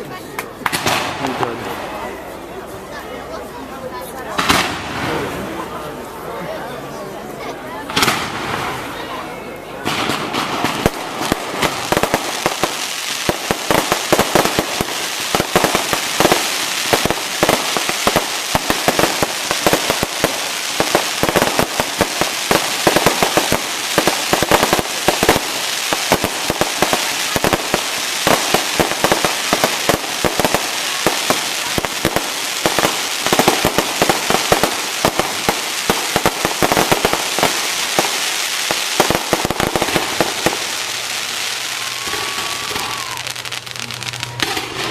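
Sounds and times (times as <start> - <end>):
fireworks crackling: 0.4 - 2.5, 4.2 - 6.2, 7.8 - 44.9
fireworks bangs: 0.6 - 2.2, 4.3 - 5.7, 7.9 - 44.9.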